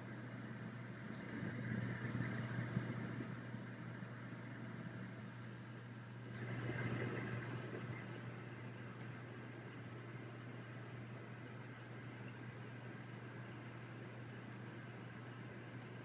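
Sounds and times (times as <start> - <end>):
fire burning in fireplace: 0.0 - 16.0.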